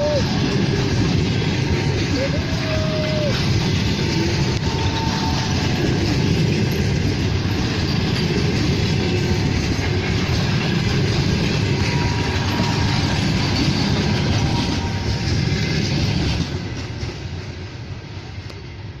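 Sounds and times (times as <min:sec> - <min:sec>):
train coaches rolling past: 0:00.0 - 0:19.0
wheels clacking over rail joints: 0:00.0 - 0:19.0.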